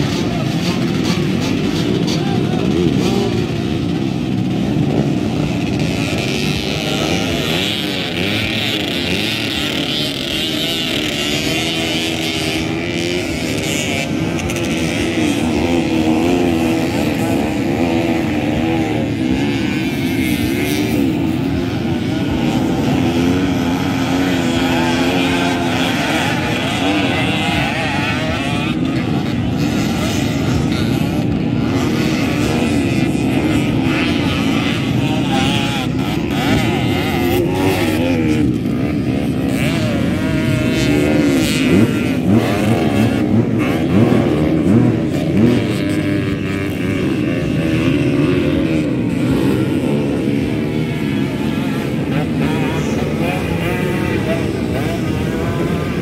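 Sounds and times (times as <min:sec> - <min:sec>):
motocross bikes revving: 0:00.0 - 0:56.0.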